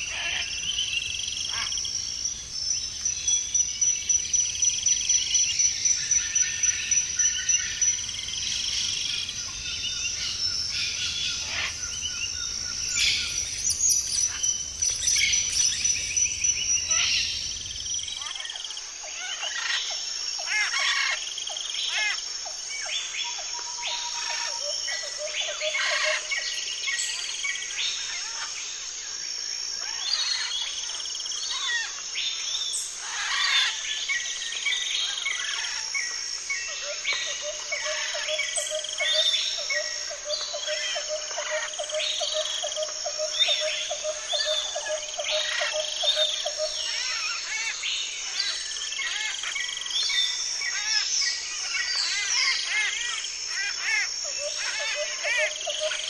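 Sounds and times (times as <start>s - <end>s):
birds calling and chirping: 0.0s - 56.0s
high insect drone: 0.0s - 56.0s.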